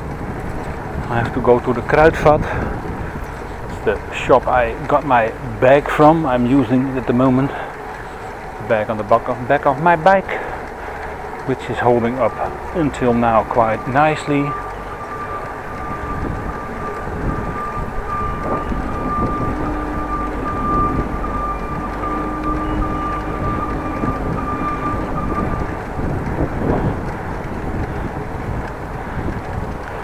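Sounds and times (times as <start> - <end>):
wind noise: 0.0 - 9.1, 10.4 - 30.0
bicycle tyre rumble: 0.0 - 30.0
steady high whine: 0.4 - 28.2.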